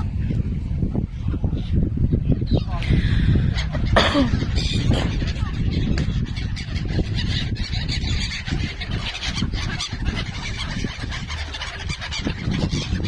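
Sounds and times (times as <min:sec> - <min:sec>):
flock of birds calling: 0:01.1 - 0:13.0.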